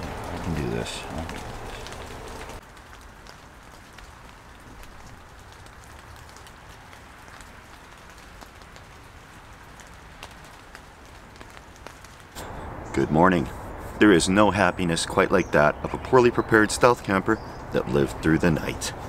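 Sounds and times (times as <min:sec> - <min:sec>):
light rain hissing: 0:00.0 - 0:19.0
raindrops ticking: 0:00.0 - 0:19.0.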